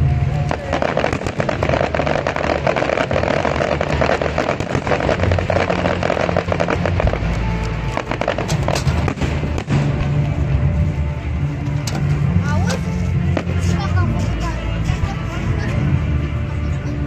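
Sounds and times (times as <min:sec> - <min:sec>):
fireworks crackling and banging: 0:00.0 - 0:17.0
music playing: 0:00.0 - 0:17.0.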